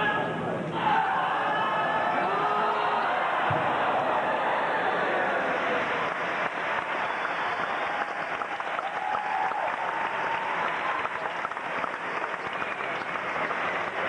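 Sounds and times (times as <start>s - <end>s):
large crowd applauding: 2.2s - 14.0s.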